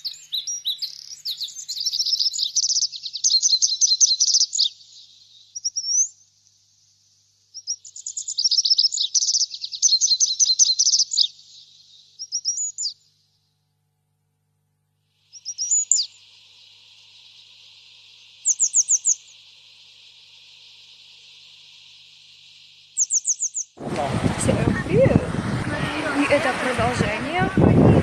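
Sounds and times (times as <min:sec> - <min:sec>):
songbird chirping and trilling: 0:00.0 - 0:13.4, 0:15.2 - 0:23.8, 0:24.5 - 0:28.0.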